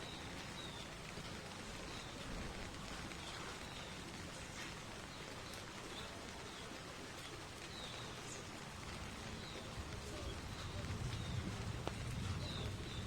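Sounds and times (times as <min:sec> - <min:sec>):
rain falling on foliage: 0:00.0 - 0:13.0.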